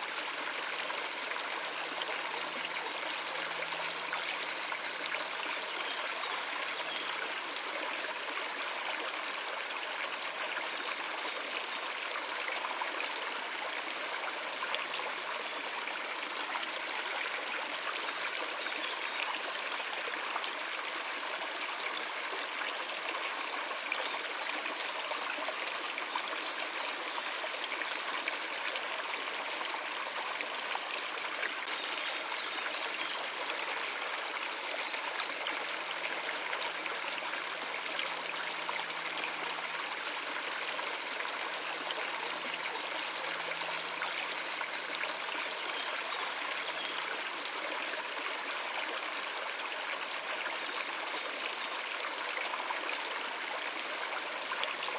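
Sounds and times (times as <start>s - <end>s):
stream running over rocks: 0.0s - 54.9s.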